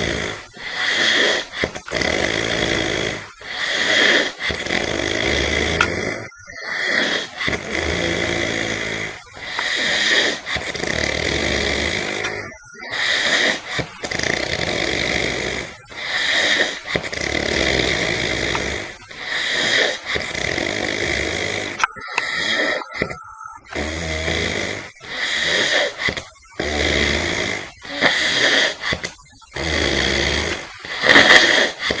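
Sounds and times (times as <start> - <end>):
person snoring: 0.0 - 32.0.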